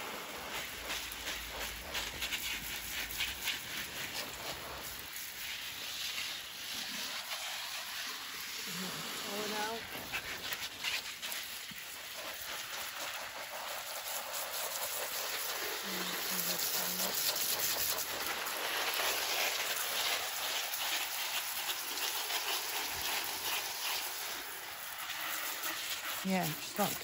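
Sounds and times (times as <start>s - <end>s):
water spray hissing on plants: 0.0s - 27.0s.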